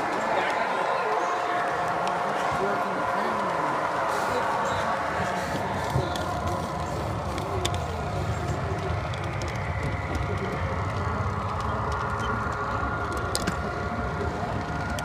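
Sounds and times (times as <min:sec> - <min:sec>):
model trains rumbling: 0:00.0 - 0:15.0.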